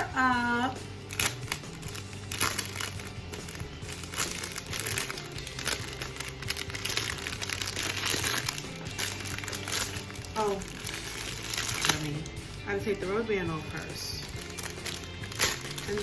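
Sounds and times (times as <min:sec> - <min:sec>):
background music: 0:00.0 - 0:16.0
packaging crinkling: 0:01.0 - 0:12.6, 0:13.6 - 0:16.0.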